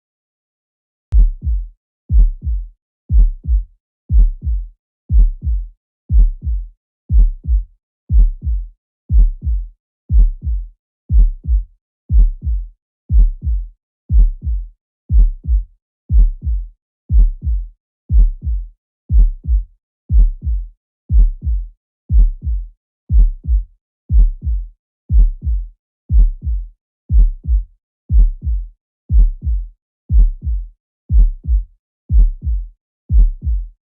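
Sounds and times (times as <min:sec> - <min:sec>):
heartbeat thumps: 0:01.1 - 0:33.8.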